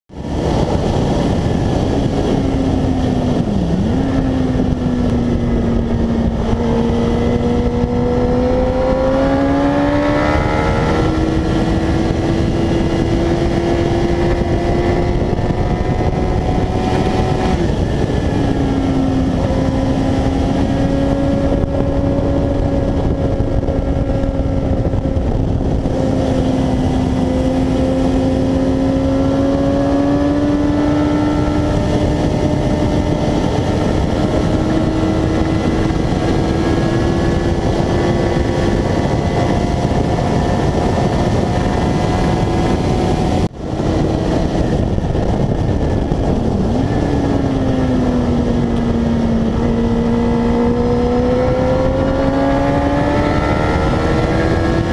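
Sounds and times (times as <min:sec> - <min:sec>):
wind rush over microphone: 0:00.1 - 0:54.9
motorcycle engine revving: 0:00.2 - 0:54.9.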